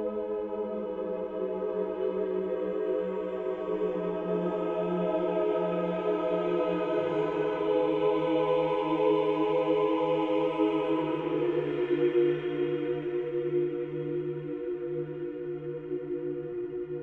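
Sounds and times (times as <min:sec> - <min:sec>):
choir holding long notes: 0:00.0 - 0:17.0.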